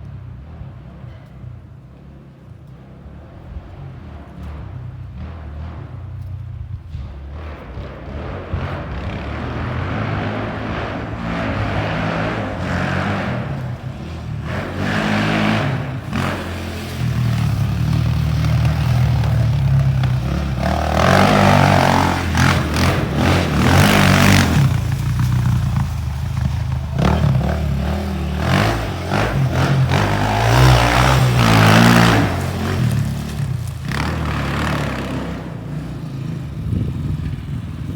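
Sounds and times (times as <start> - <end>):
atv engine revving: 0.0 - 37.9.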